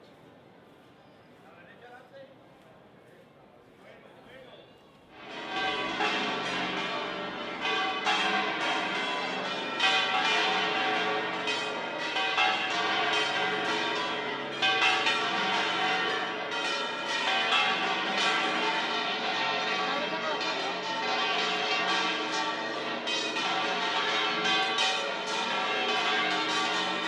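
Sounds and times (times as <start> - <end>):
church bells pealing: 5.1 - 27.0.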